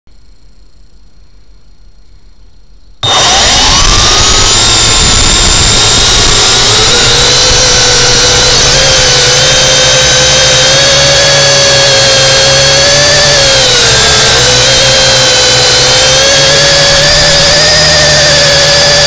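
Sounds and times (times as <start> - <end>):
drone propeller motors whining: 3.0 - 19.0.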